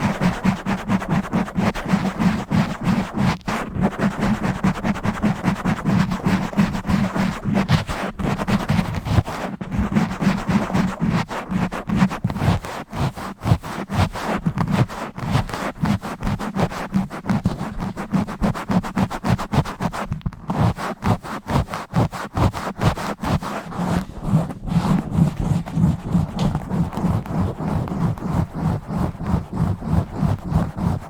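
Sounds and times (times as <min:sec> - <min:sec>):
fingers scratching on microphone: 0:00.0 - 0:31.0.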